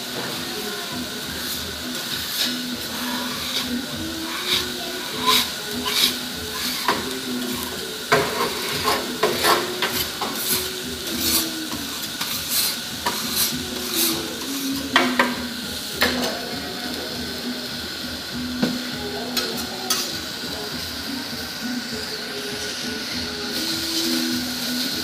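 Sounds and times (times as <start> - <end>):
food sizzling: 0.0 - 25.0.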